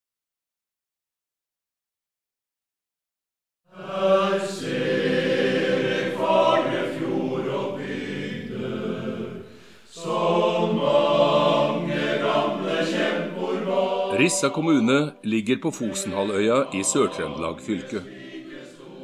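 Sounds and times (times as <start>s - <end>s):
men's choir singing: 3.7s - 19.0s.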